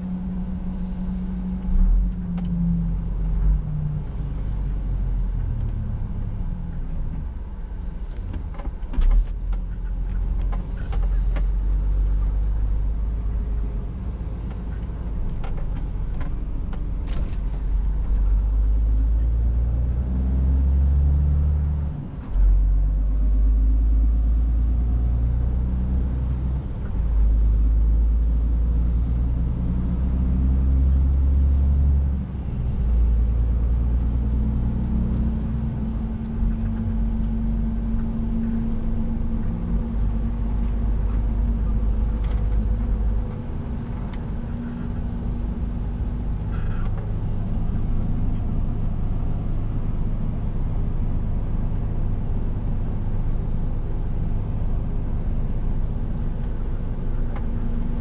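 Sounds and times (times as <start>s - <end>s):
diesel truck engine drone: 0.0s - 58.0s.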